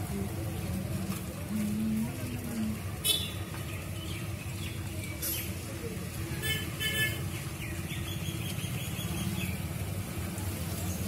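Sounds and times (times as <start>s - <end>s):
rumble of traffic: 0.0s - 11.0s.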